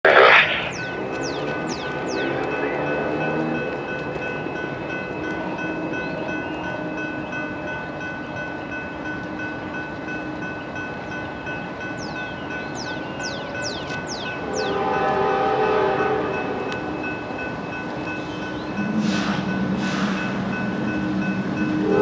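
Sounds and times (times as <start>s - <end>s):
railroad crossing bell ringing: 0.8s - 22.0s.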